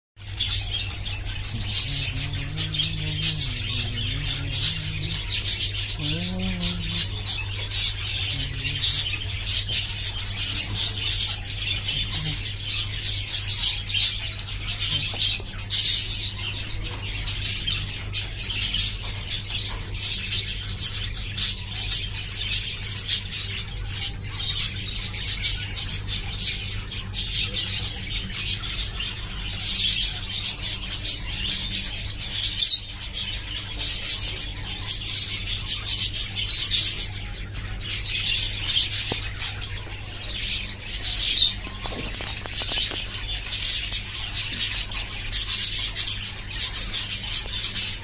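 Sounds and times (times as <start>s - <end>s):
birds chirping: 0.2s - 48.0s
steady low hum: 0.2s - 48.0s.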